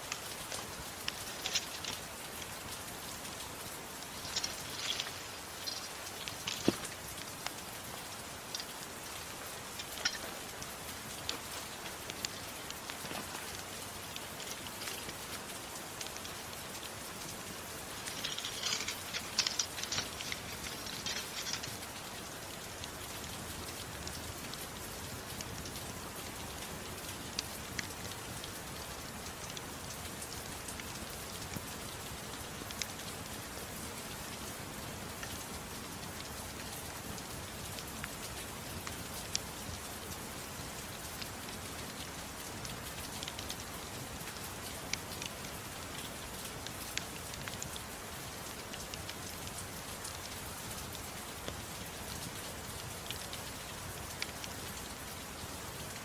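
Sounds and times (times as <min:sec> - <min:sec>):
dense rain crackling: 0:00.0 - 0:56.0
soft steady rain: 0:00.0 - 0:56.0.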